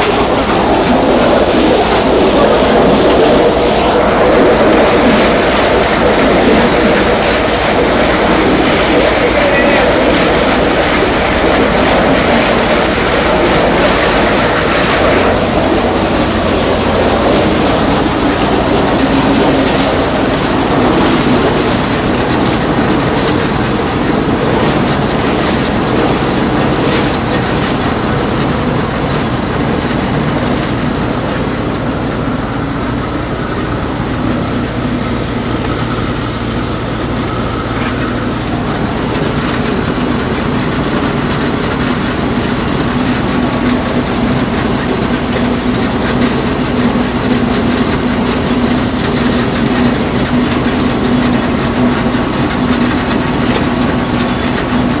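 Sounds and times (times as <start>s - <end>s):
drilling rig machinery running: 0.0s - 55.0s.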